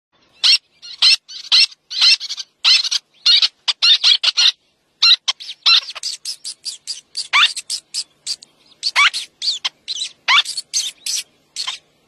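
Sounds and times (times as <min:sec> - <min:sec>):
terns calling: 0:00.2 - 0:12.0.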